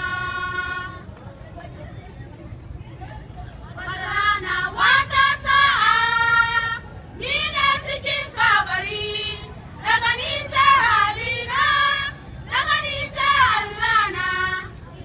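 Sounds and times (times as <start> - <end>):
girls singing together: 0.0 - 1.1, 3.8 - 14.8.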